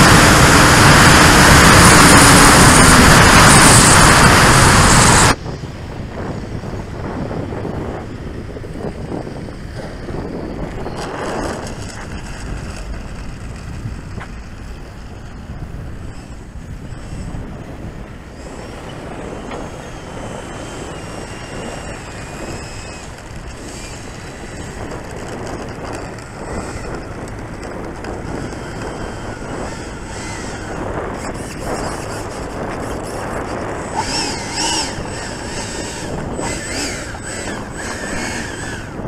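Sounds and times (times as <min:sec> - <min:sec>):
electric fan whining: 0:00.0 - 0:39.0
wind rumbling on microphone: 0:00.0 - 0:39.0.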